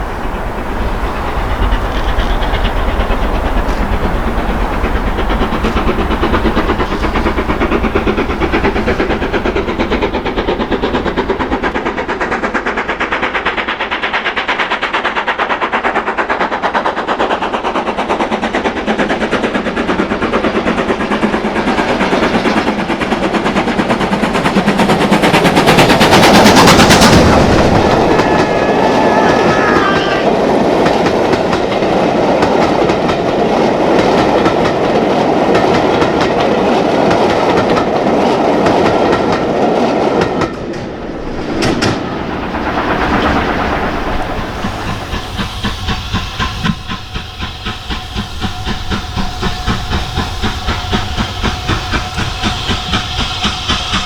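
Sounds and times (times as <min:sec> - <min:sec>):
passing train rattling: 0:00.0 - 0:54.0
steam locomotive exhaust beats: 0:00.0 - 0:54.0.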